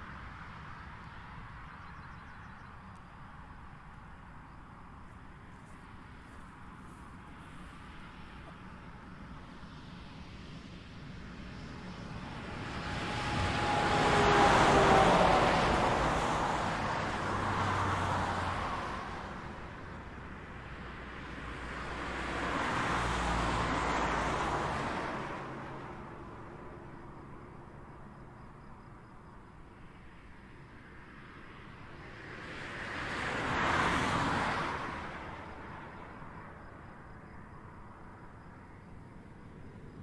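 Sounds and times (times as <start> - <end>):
vehicles passing on highway: 0.0 - 40.0.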